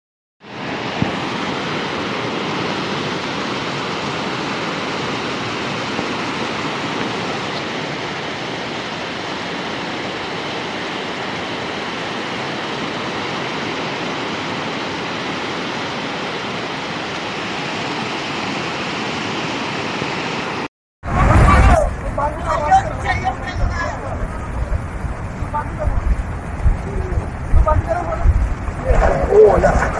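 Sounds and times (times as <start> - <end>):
floodwater rushing over boulders: 0.4 - 29.9.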